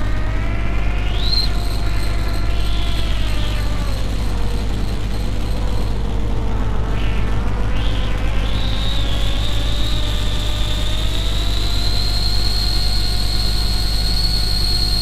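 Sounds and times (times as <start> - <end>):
electronic noise drone: 0.0 - 15.0.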